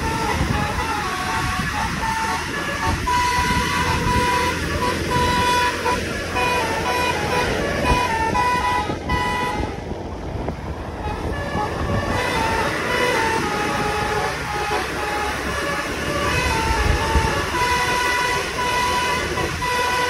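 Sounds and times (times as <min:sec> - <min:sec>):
bus musical horn tune: 0:00.0 - 0:20.0
road and wind noise: 0:00.0 - 0:20.0.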